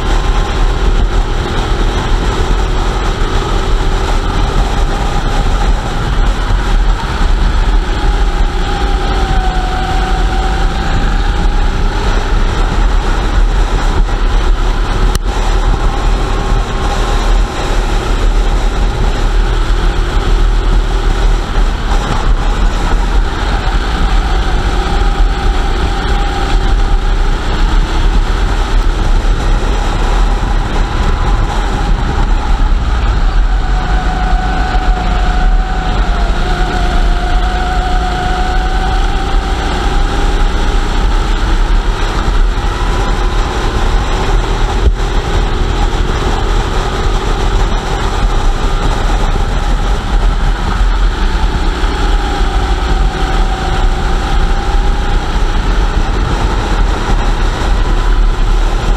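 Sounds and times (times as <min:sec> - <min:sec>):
kart engines racing: 0:00.0 - 0:58.9.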